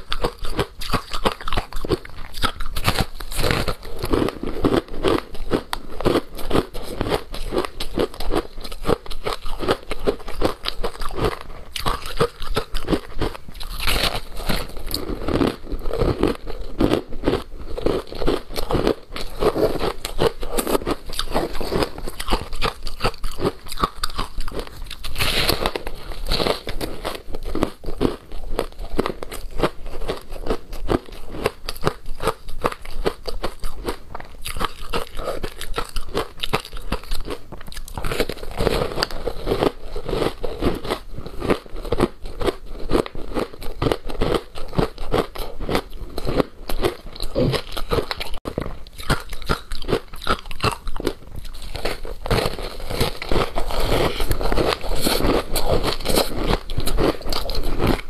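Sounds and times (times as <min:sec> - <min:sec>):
crunching and chewing ice: 0:00.0 - 0:58.0.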